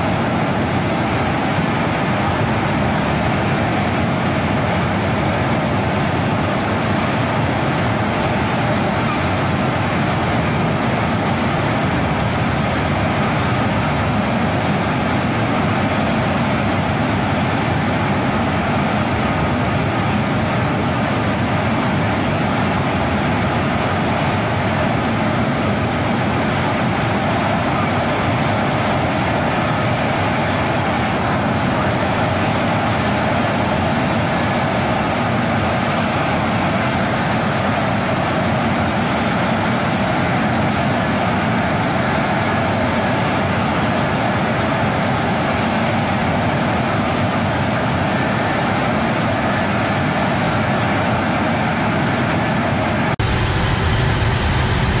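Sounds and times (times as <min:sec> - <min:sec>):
heavy truck engine rumble: 0:00.0 - 0:55.0.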